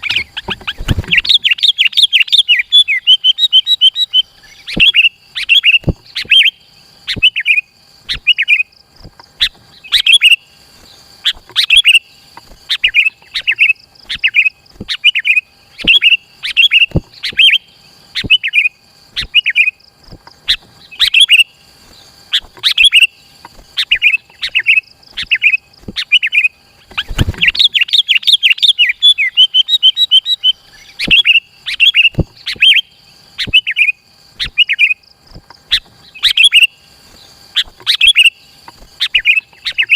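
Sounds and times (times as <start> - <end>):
bird singing bubbly phrases: 0.0 - 19.8, 20.4 - 39.9.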